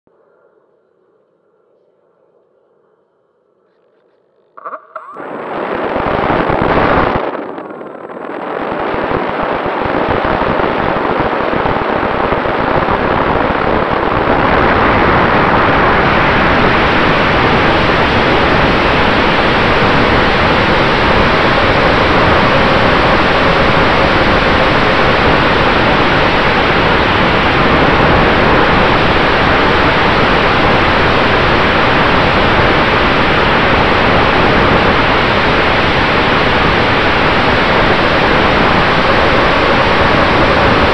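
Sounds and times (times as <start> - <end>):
propeller blast and rushing air: 4.6 - 40.9.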